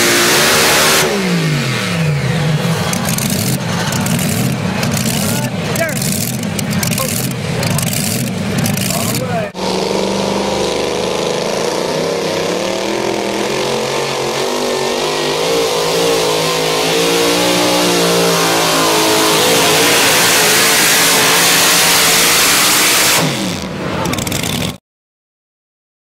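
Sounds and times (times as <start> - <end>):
tires spinning in dirt: 0.0 - 24.8
truck engine at full throttle: 0.0 - 24.8.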